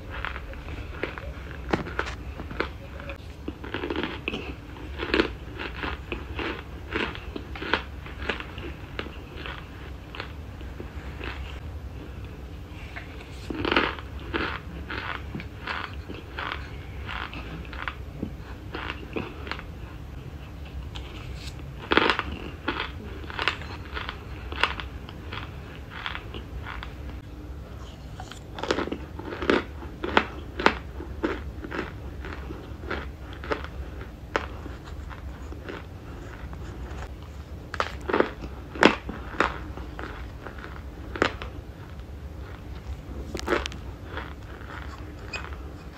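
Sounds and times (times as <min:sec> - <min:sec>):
person crunching dry food: 0:00.0 - 0:11.6, 0:13.1 - 0:27.1, 0:27.8 - 0:45.9
low hum: 0:00.0 - 0:45.9.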